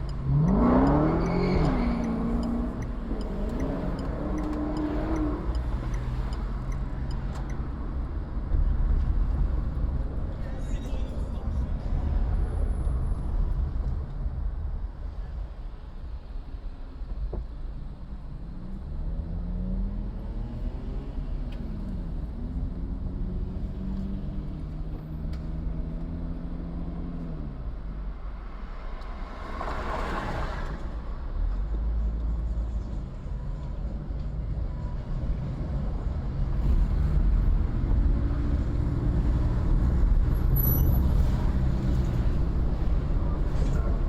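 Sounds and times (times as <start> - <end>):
car engine: 0.0 - 44.0
road noise: 0.0 - 44.0.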